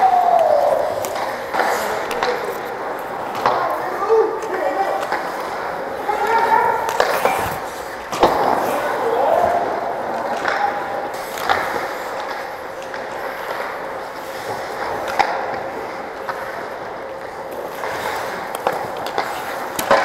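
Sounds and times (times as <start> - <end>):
hockey sticks and puck clacking: 0.0 - 20.0
ice skate blades scraping: 0.1 - 20.0.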